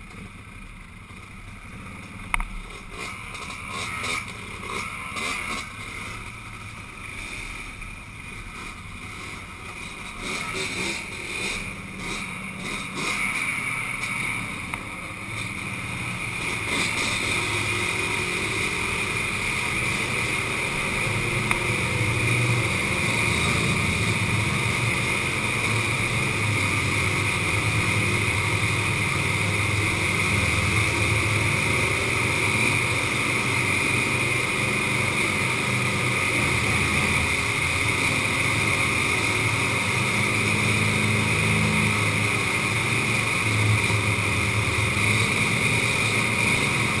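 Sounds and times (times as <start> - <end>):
quad bike engines running: 0.0 - 47.0.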